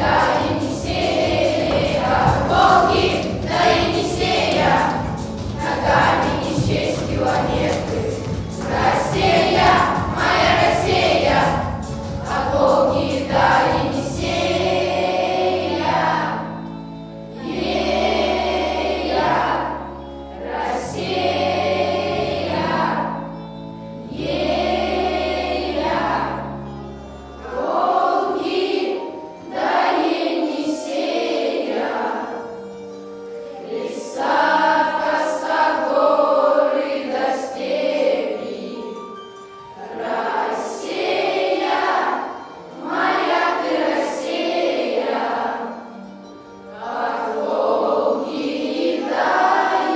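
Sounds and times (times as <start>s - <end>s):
children's choir singing: 0.0s - 26.7s, 27.4s - 49.9s
musical accompaniment: 0.0s - 49.9s.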